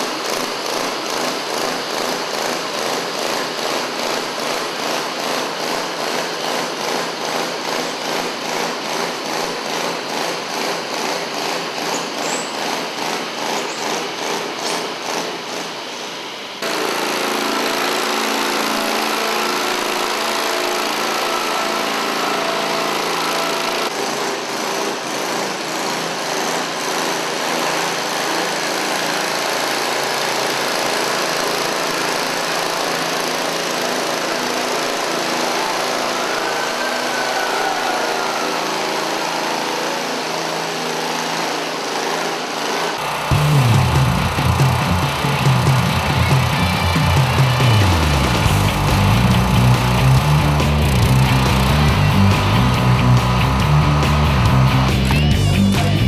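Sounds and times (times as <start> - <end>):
small gasoline engines under load: 0.0 - 56.0.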